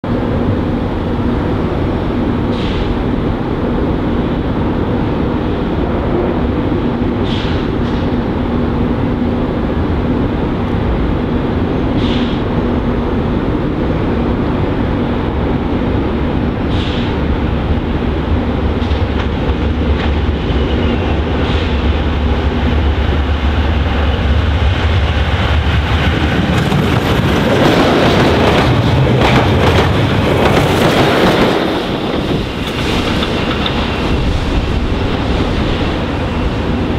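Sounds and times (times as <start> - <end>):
diesel locomotive engine rumble: 0.0 - 36.9
train wagons rushing past: 0.1 - 36.9.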